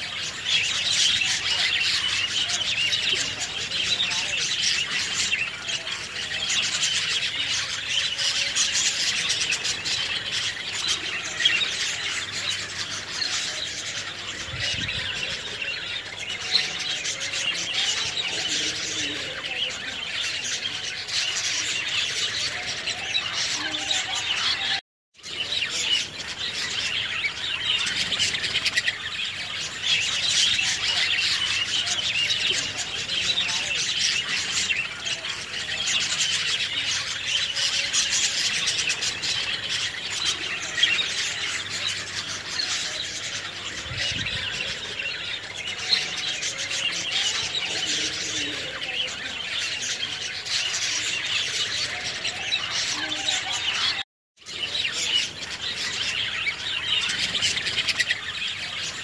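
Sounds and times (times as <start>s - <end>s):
birds squawking and chirping: 0.0s - 59.0s.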